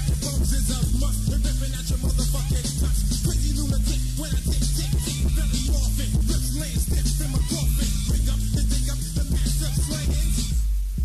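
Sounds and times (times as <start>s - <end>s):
rapping over a beat: 0.0s - 10.7s
deep repeating bassline: 0.0s - 11.0s.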